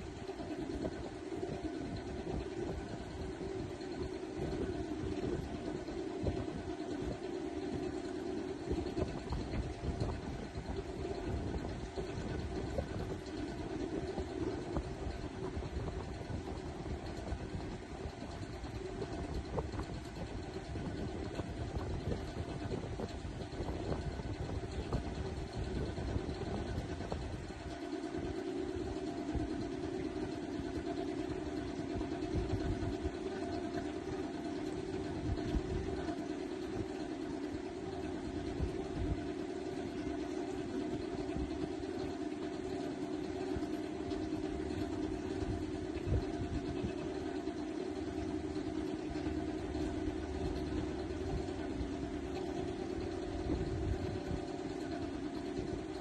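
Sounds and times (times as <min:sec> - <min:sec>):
vehicle engine drone: 0:00.0 - 0:56.0.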